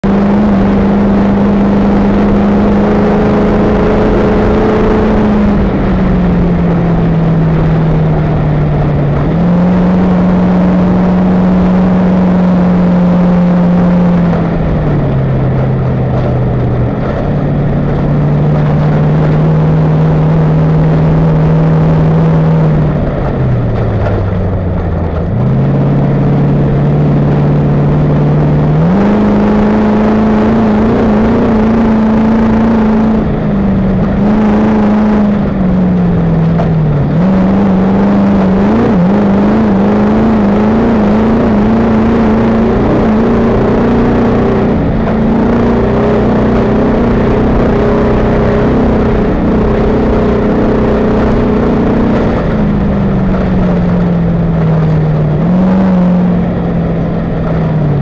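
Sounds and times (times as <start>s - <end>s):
race truck engine running hard: 0.0s - 58.0s
tyre and wind noise rumble: 0.0s - 58.0s.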